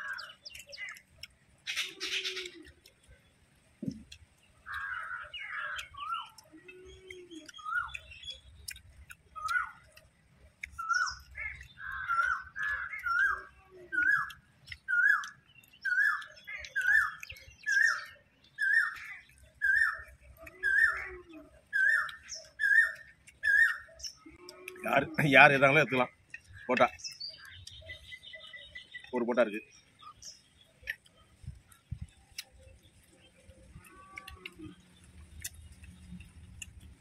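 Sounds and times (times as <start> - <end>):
high bird chirps: 0.0 - 37.0.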